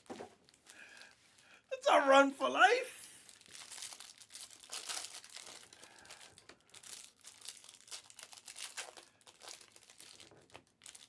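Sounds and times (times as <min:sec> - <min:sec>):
card pack wrappers crinkling and tearing: 0:00.0 - 0:01.2, 0:02.9 - 0:11.0.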